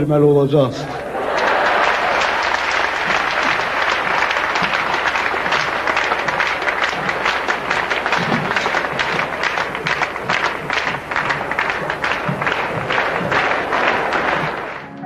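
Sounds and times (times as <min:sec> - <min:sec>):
crowd applauding: 0:00.8 - 0:15.0.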